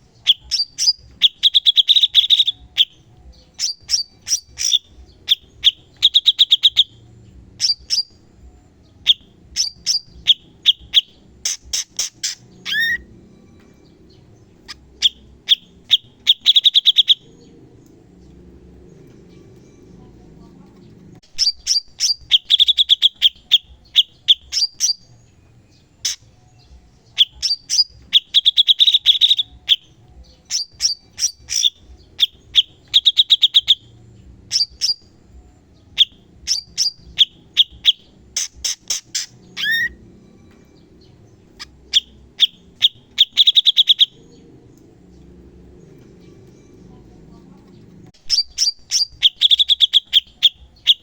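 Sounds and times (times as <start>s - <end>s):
bird singing chip notes and trills: 0.0s - 51.0s
faint low hum: 0.0s - 51.0s.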